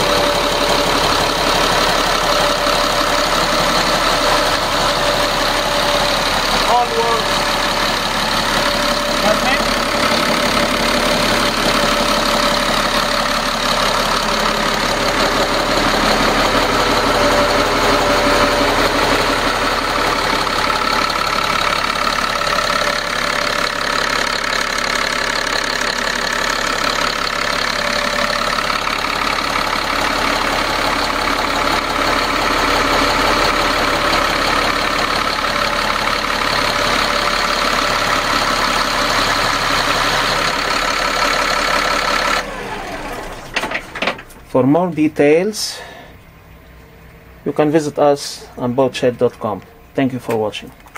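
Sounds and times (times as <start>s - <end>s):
marine diesel engines idling: 0.0s - 50.9s.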